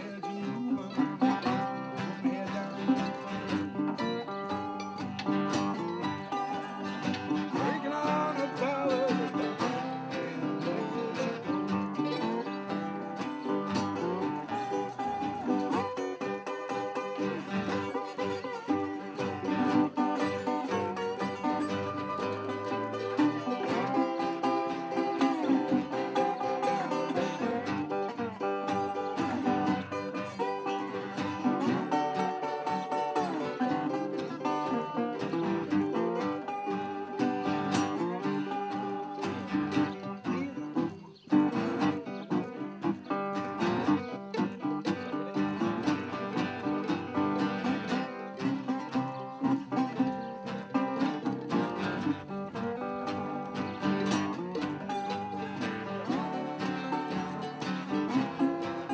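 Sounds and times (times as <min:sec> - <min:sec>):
acoustic blues guitars playing: 0:00.0 - 0:58.9
resonator guitar sliding notes: 0:00.0 - 0:58.9.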